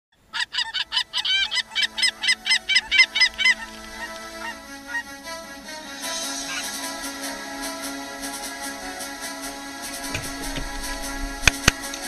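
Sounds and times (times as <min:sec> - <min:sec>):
geese honking: 0:00.2 - 0:12.0
music with long held notes: 0:01.2 - 0:12.0.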